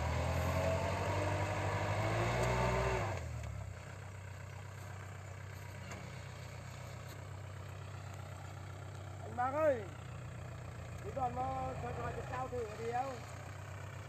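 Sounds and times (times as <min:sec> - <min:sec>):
tractor diesel engine labouring: 0:00.0 - 0:14.0.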